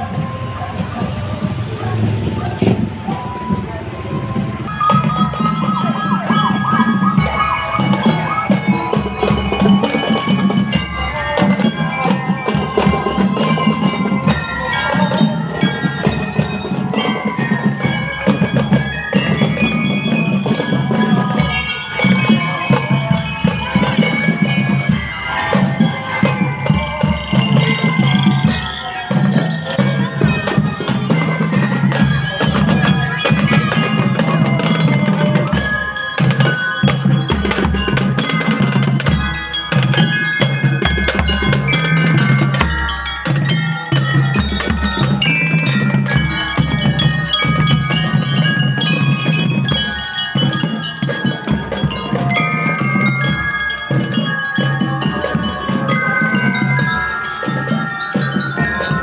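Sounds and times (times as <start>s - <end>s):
bass drum beats: 0.0s - 59.0s
bell-like melody notes: 0.0s - 59.0s.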